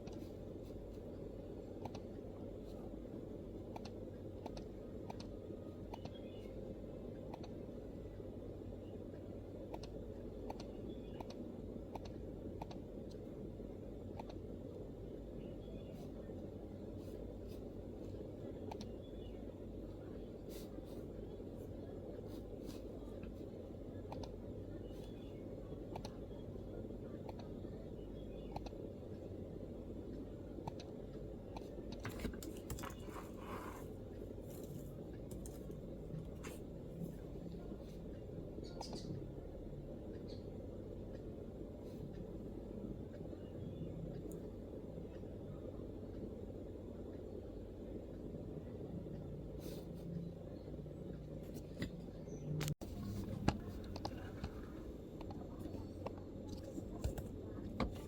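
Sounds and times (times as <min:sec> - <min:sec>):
low background noise: 0:00.0 - 0:58.0
low room rumble: 0:00.0 - 0:58.0.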